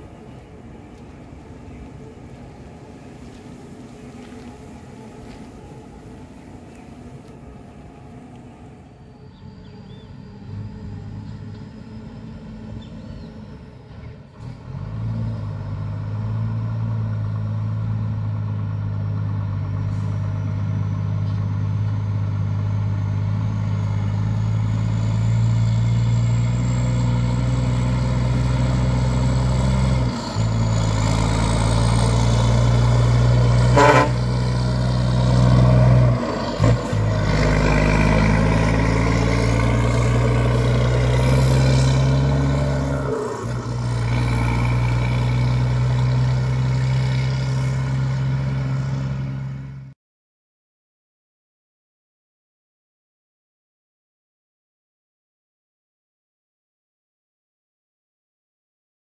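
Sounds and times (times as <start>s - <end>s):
truck diesel engine pulling away: 0.0s - 50.0s.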